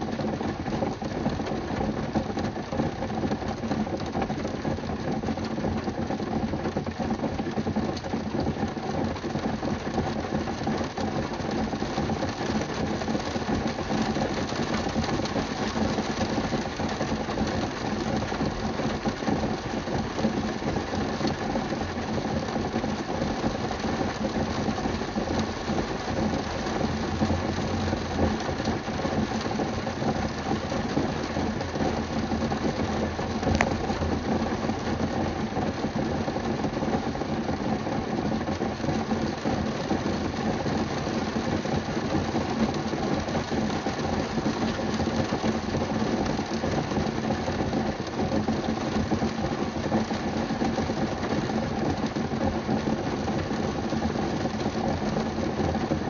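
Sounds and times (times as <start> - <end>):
rain on a car roof: 0.0 - 56.0.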